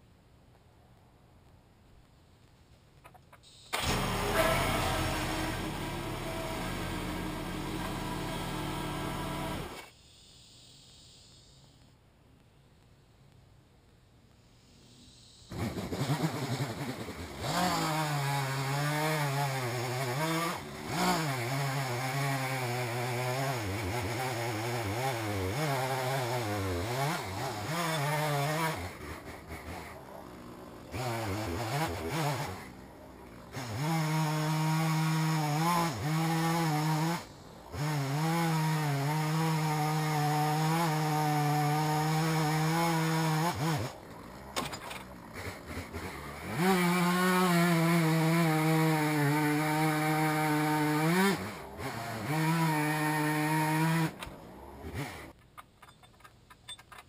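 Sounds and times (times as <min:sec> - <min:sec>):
chainsaw cutting wood: 0:03.7 - 0:09.9, 0:15.5 - 0:55.4.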